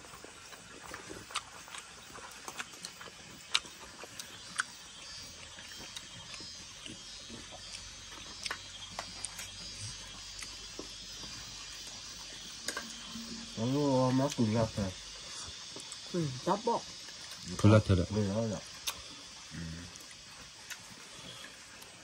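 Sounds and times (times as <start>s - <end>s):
insects chirping: 0.0s - 22.0s
people chewing: 0.0s - 22.0s.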